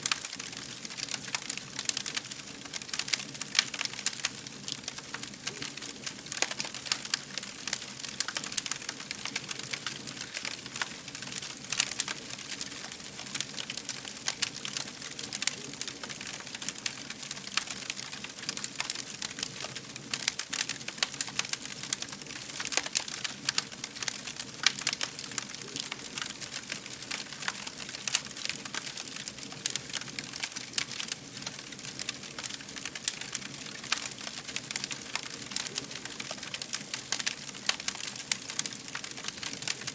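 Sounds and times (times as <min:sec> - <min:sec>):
fire crackling and popping: 0:00.0 - 0:39.9
soft steady hiss: 0:00.0 - 0:39.9.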